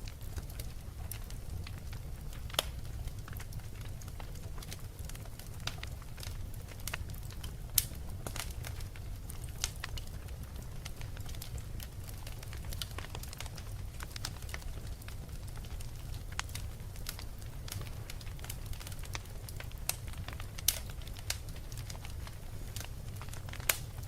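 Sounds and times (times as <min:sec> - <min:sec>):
fire crackling: 0:00.0 - 0:24.0.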